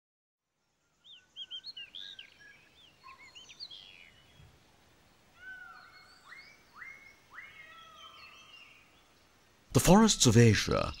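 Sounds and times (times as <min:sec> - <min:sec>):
birds chirping: 0:00.6 - 0:11.0.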